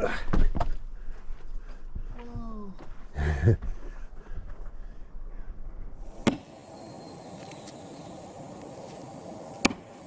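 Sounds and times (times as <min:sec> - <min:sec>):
faint outdoor hiss: 0:00.3 - 0:10.0.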